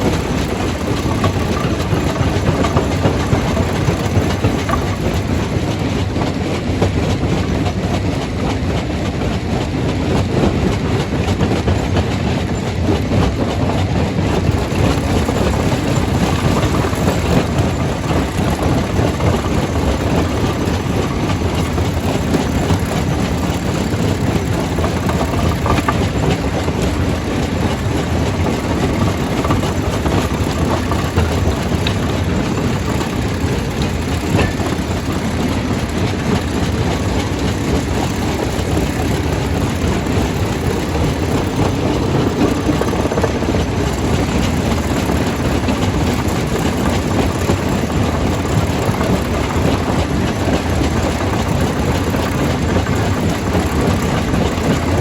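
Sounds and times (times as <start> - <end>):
stone crusher rumbling: 0.0 - 5.9, 14.3 - 55.0.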